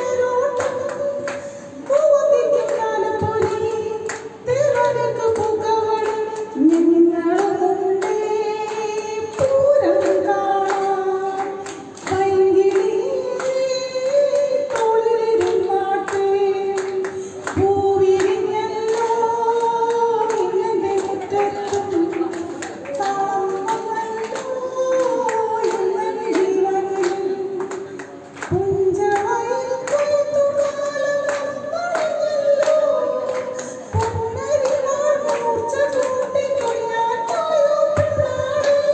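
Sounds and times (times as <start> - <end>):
women singing: 0.0 - 38.9.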